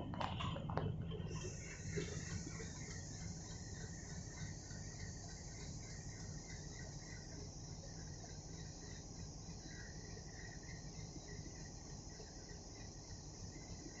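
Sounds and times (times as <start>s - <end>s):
crickets chirring: 1.3s - 14.0s.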